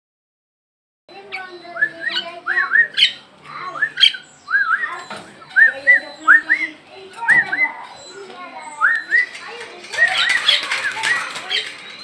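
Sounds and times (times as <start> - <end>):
lovebird chirping and squawking: 1.2 - 12.0.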